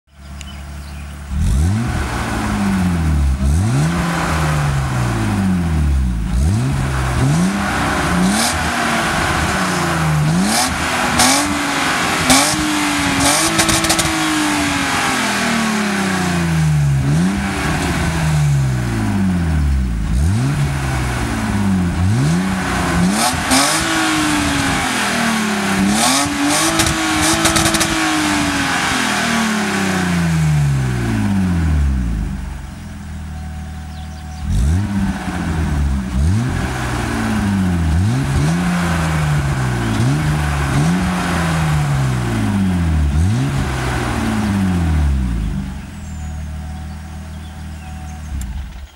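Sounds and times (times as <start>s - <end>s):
car engine revving: 0.8s - 48.9s.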